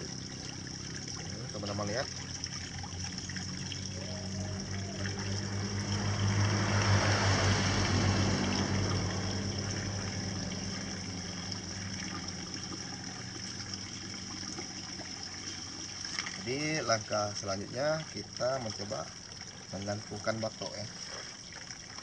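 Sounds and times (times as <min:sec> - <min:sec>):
low steady hum: 0:00.0 - 0:22.0
water running and trickling: 0:00.0 - 0:22.0.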